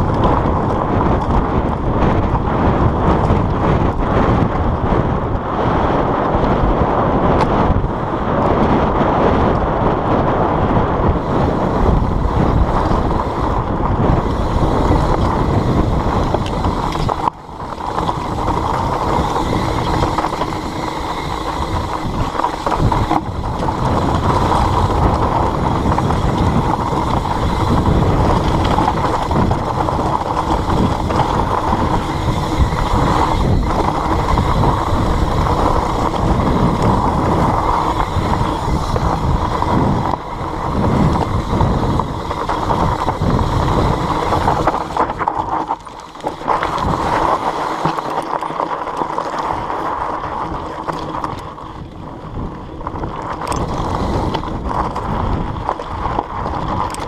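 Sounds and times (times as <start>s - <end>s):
bike tyres rumbling over gravel: 0.0s - 57.0s
wind on microphone: 0.0s - 57.0s.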